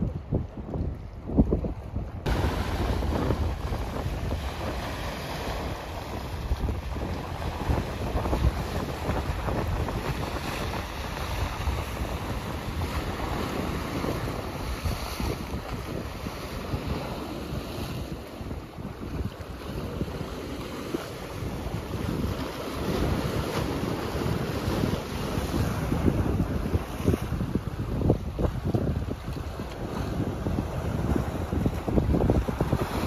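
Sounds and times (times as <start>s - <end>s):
sea waves on shore: 0.0s - 33.0s
wind gusting on microphone: 0.0s - 33.0s.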